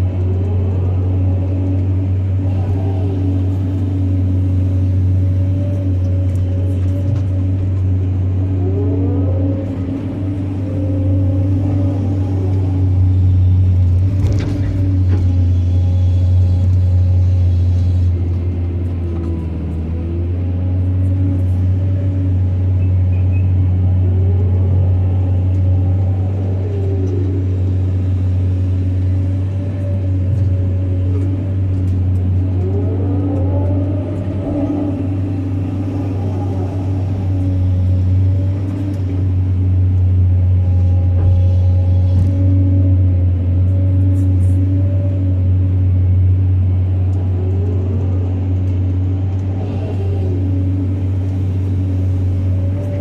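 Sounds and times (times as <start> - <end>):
heavy machinery diesel engine hum: 0.0 - 53.0.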